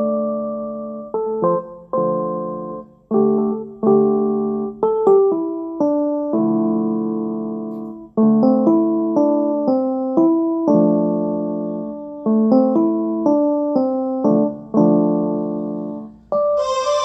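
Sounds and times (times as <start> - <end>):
piano-like ringtone melody: 0.0 - 17.0.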